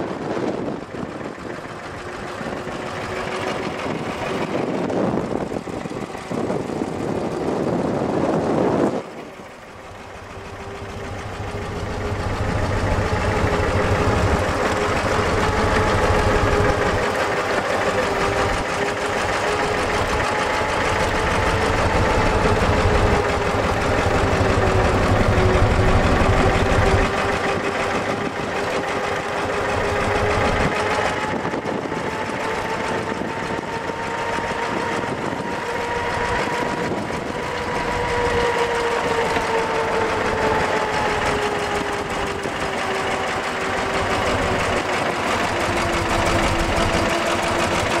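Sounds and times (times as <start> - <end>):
car engine running: 0.0 - 48.0.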